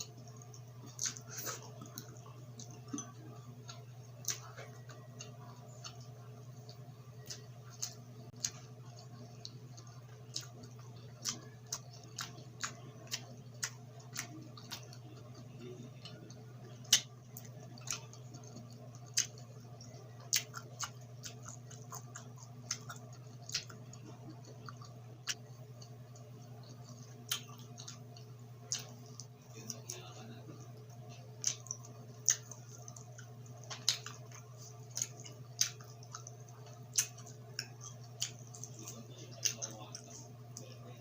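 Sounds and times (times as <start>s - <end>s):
chewing clicks and mouth smacks: 0.0s - 41.0s
steady low hum: 0.0s - 41.0s.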